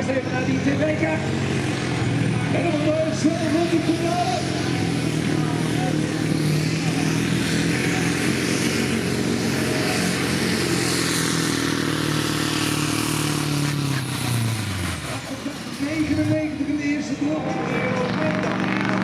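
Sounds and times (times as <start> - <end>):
truck engine at high revs: 0.0 - 19.0.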